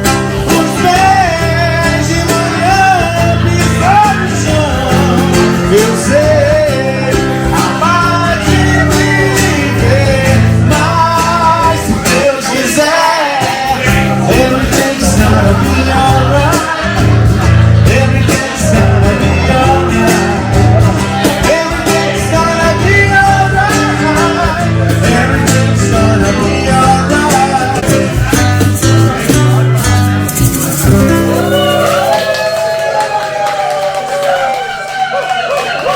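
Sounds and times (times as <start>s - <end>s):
bass line: 0.0s - 33.2s
person singing: 0.0s - 33.6s
guitar: 0.0s - 35.9s.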